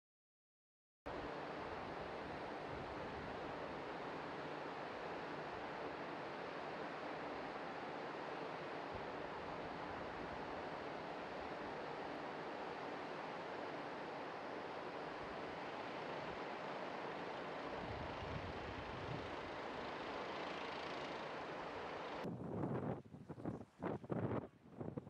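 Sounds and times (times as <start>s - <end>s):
steady outdoor background rush: 1.1s - 22.3s.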